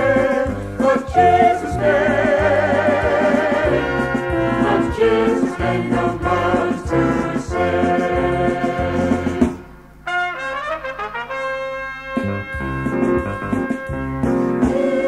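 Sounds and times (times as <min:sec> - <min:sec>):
brass ensemble playing a hymn: 0:00.0 - 0:15.0.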